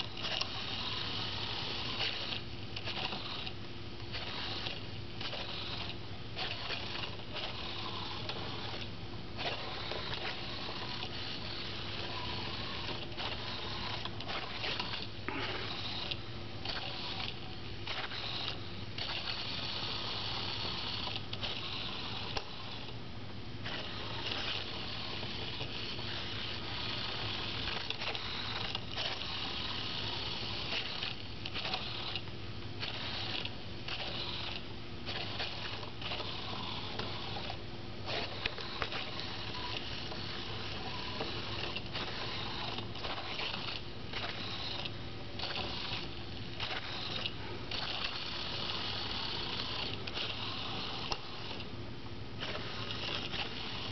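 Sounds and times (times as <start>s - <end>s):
small gearmotors whirring: 0.0s - 23.0s, 23.6s - 51.8s, 52.4s - 53.9s.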